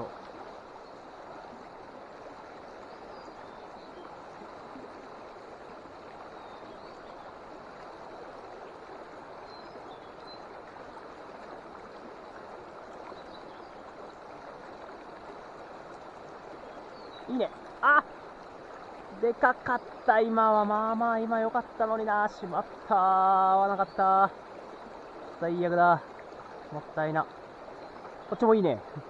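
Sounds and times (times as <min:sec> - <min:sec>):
stream flowing: 0:00.0 - 0:29.0.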